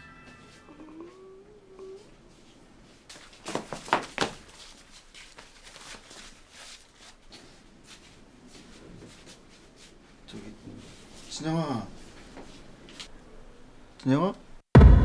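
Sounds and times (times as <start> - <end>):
faint shuffling: 0.0 - 13.1.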